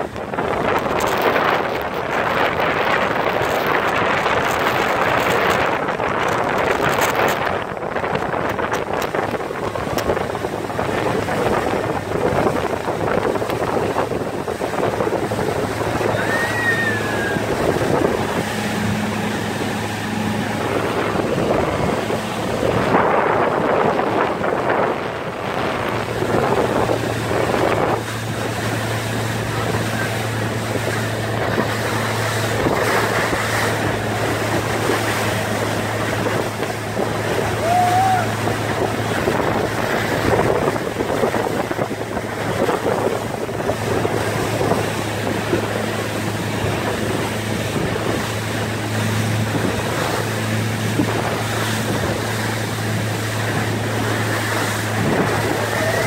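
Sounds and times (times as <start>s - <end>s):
motorboat engine running: 0.0s - 56.0s
water rushing in wake: 0.0s - 56.0s
wind buffeting microphone: 0.0s - 56.0s.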